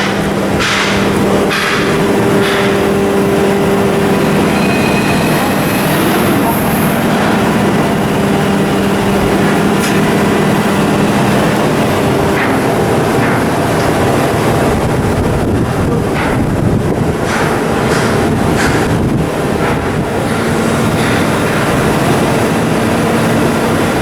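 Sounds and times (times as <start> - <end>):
ship diesel engine droning: 0.0 - 24.0.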